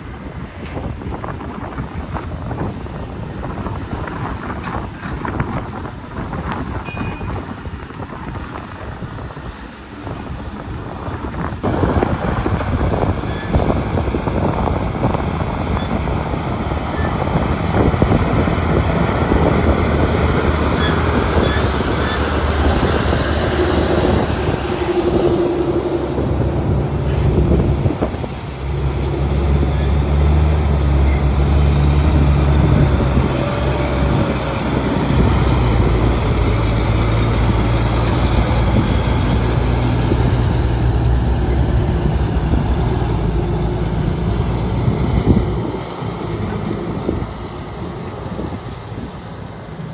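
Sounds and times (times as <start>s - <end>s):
heavy machinery engine: 0.0s - 49.9s.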